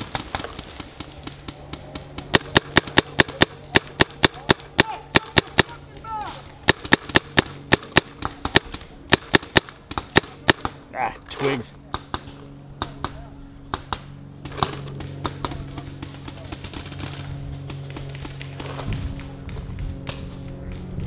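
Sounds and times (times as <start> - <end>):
paintball marker firing: 0.0 - 5.8, 6.6 - 10.8, 11.9 - 21.0.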